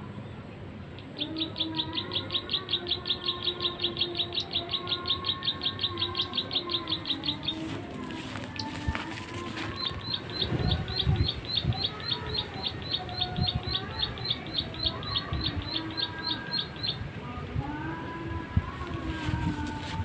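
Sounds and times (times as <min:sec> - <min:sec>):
other birds calling: 0:00.8 - 0:17.2.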